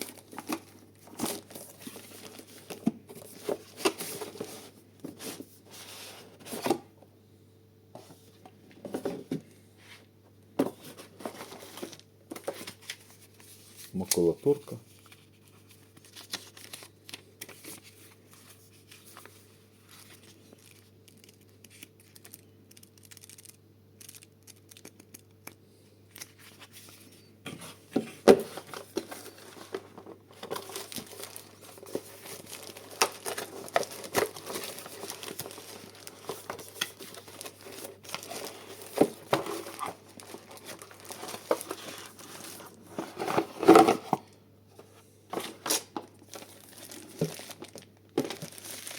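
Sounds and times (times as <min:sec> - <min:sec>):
paper packaging crinkling and tearing: 0:00.0 - 0:06.8, 0:10.8 - 0:25.3, 0:28.2 - 0:44.2, 0:45.3 - 0:48.9.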